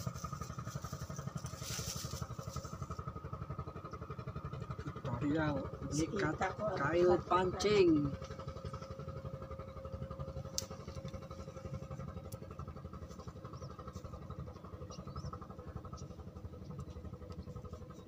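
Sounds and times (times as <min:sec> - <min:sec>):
faint hum: 0:00.0 - 0:18.0
small engine idling: 0:00.0 - 0:18.0.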